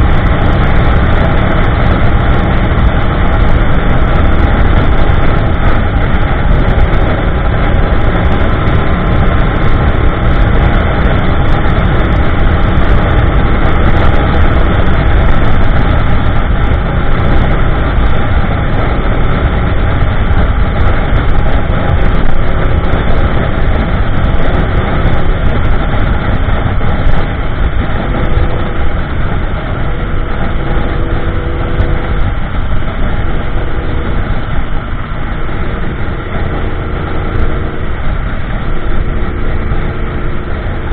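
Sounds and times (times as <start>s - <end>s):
motorcycle engine cruising: 0.0s - 40.9s
wind buffeting microphone: 0.0s - 40.9s.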